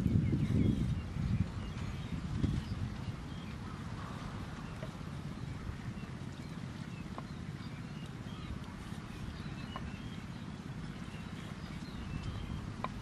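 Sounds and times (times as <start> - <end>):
low steady rumble: 0.0 - 13.0
small birds chirping: 0.0 - 13.0.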